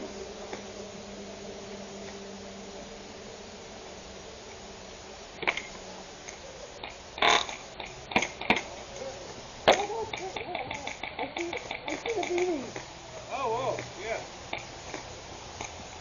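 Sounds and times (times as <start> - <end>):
distant shouting: 0.0 - 15.5.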